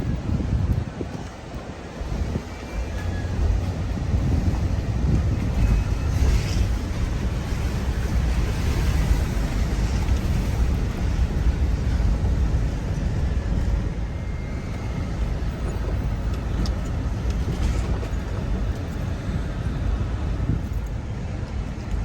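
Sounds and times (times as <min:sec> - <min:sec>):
vehicle road noise: 0:00.0 - 0:22.0
wind buffeting microphone: 0:00.0 - 0:22.0.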